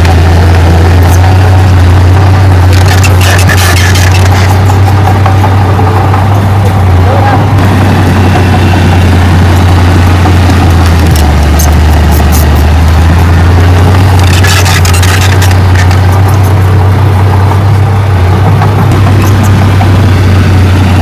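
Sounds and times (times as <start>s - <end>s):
heavy machinery diesel engine drone: 0.0s - 21.0s.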